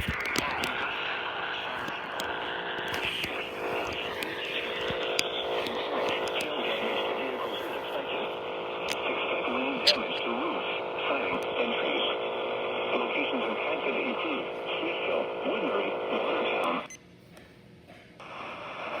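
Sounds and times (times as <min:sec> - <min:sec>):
person reading over radio: 0:00.0 - 0:16.9
radio static: 0:00.0 - 0:17.0.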